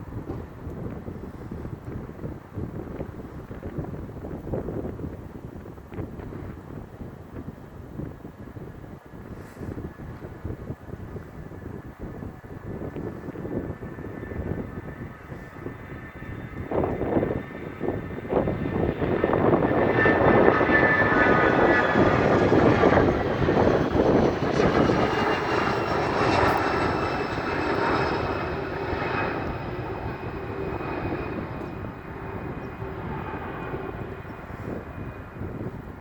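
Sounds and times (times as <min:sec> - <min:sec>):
jet engines roaring with fan whine: 0:00.0 - 0:36.0.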